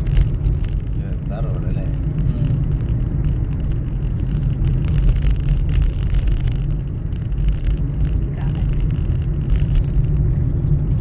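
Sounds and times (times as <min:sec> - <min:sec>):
vehicle road noise rumble: 0:00.0 - 0:11.0.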